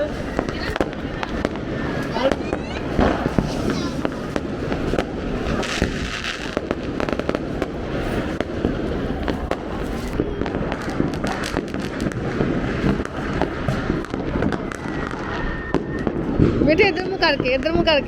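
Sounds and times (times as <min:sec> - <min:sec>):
firecrackers cracking and popping: 0:00.0 - 0:18.0.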